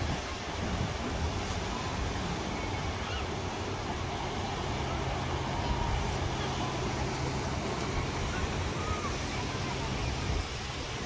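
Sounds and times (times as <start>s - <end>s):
sea wash: 0.0s - 11.0s
wind noise: 0.0s - 11.0s.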